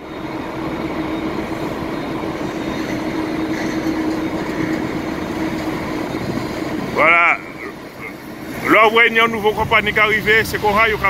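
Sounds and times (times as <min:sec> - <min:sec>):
jet engines droning: 0:00.0 - 0:11.0.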